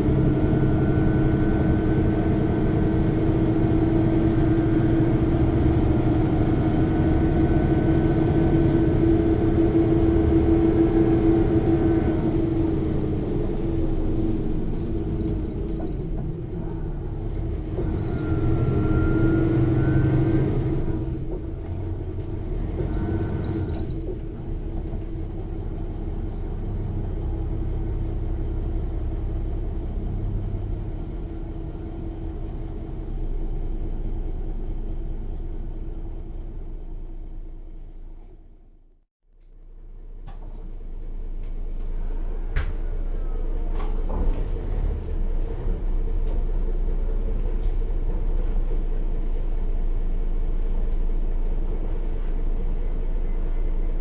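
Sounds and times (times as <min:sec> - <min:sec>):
bus diesel engine pulling: 0:00.0 - 0:39.0, 0:39.7 - 0:54.0.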